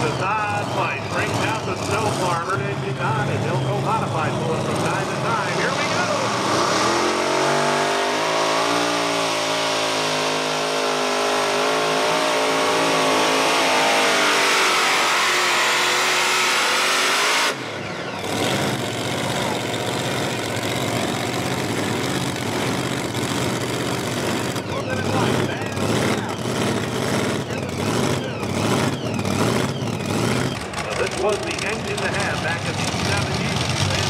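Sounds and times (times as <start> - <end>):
tractor engines at full throttle: 0.0 - 34.0.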